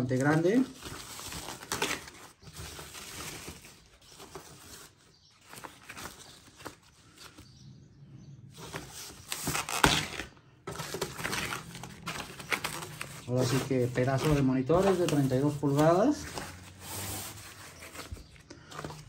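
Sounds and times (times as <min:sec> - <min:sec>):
foam bag rustling and crinkling: 0:00.0 - 0:07.5, 0:08.5 - 0:19.0.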